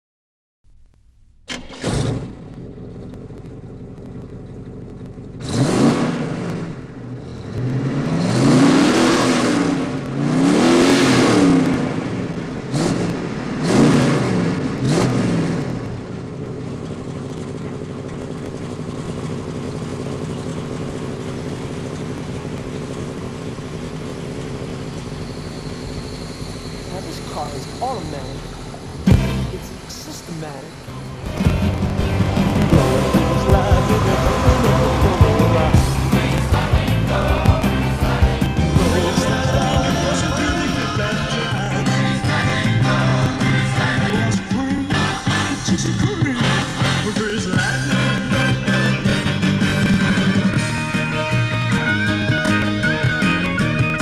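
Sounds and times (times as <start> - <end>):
car engine revving and idling: 1.5 - 54.0.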